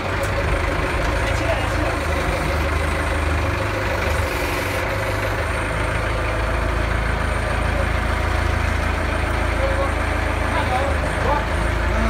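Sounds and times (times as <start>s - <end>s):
forklift engine idling: 0.0s - 12.0s.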